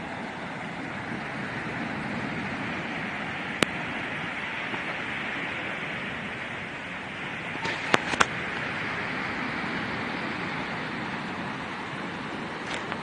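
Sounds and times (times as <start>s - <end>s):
surf rushing on sand: 0.0s - 13.0s.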